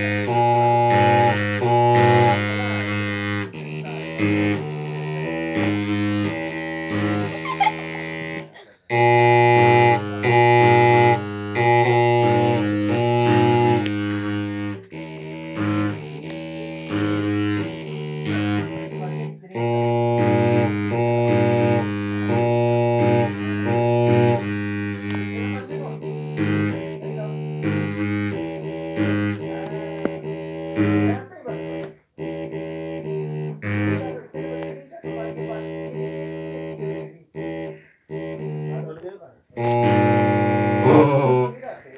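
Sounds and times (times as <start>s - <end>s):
bamboo flutes buzzy held notes: 0.0s - 41.9s.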